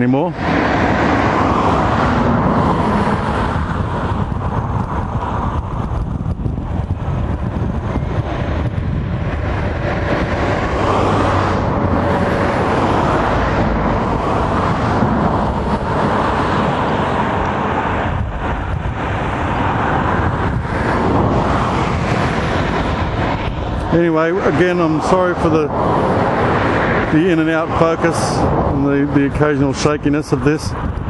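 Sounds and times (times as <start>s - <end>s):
steady low rumble: 0.0s - 31.0s
vehicles passing: 0.0s - 31.0s.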